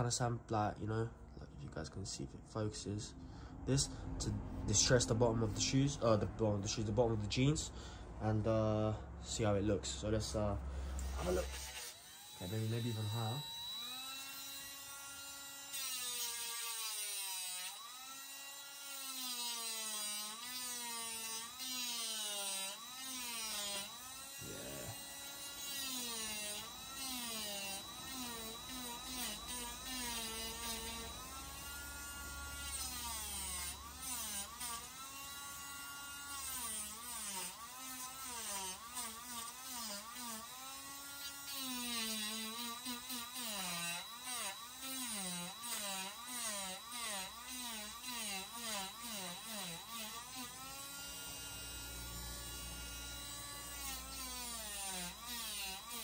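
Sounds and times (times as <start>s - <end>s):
rotary tool whining on fabric: 10.9s - 56.0s.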